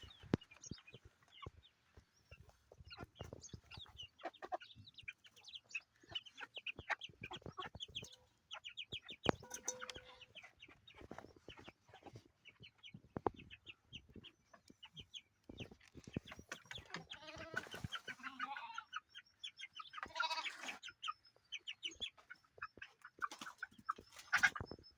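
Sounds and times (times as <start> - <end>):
chicken clucking: 0.0 - 24.9
chicks peeping: 0.0 - 24.9.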